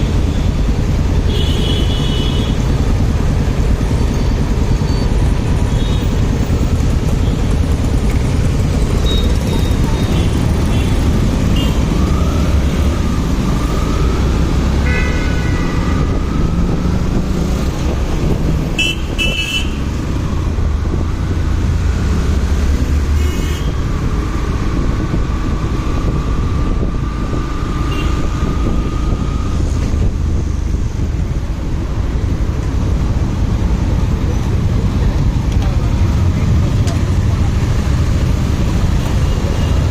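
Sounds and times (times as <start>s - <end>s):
motorcycle engine rumble: 0.0s - 39.9s
wind noise: 7.8s - 39.9s.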